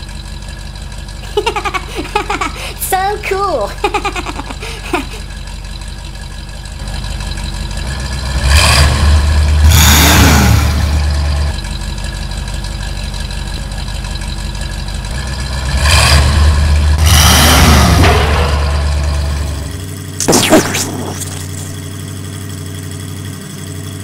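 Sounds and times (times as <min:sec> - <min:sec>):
heavy machine engine rumbling: 0:00.0 - 0:24.0.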